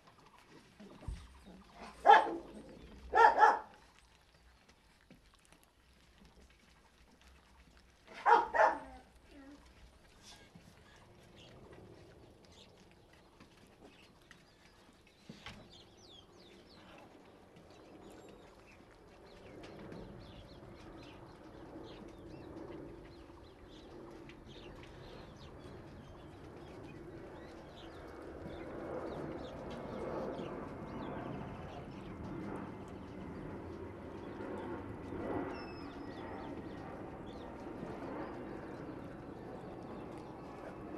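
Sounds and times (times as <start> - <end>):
puppies chewing raw chicken: 0.0 - 40.9.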